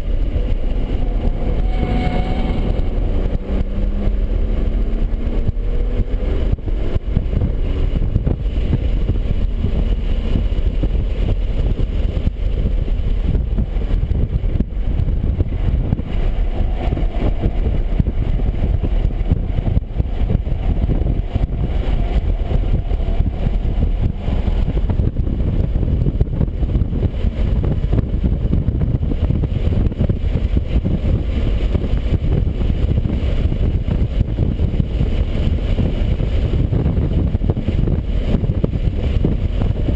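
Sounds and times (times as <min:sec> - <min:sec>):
car engine under load: 0:00.0 - 0:39.9
road and wind noise: 0:00.0 - 0:39.9.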